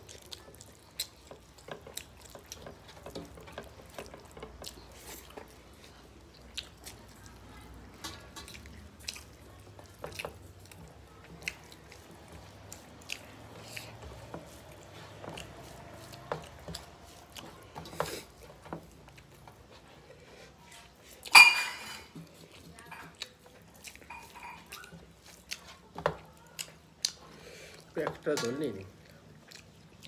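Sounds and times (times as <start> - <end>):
chewing and lip smacks: 0.0 - 21.3, 22.2 - 30.0.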